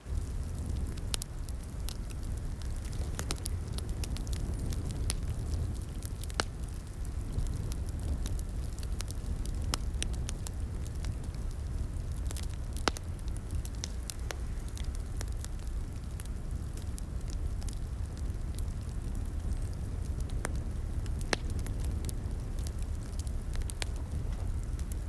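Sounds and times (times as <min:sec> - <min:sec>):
fire pops and snaps: 0:00.0 - 0:25.0
low rumble of burning fire: 0:00.0 - 0:25.0.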